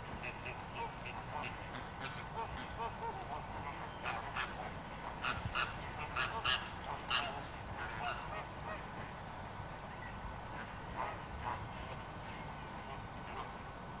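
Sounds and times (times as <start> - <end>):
flamingos honking: 0.0 - 9.1, 10.0 - 14.0.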